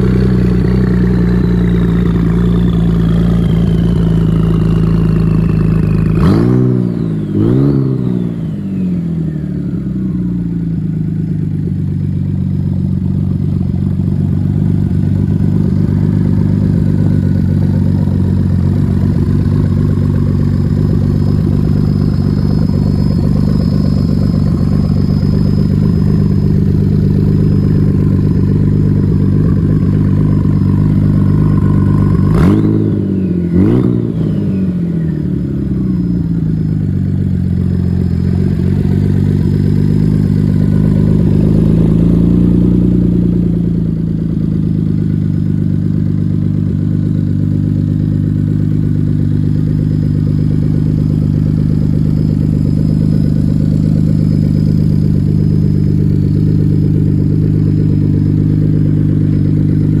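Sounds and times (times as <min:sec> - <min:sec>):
engine revving and idling: 0:00.0 - 1:00.0.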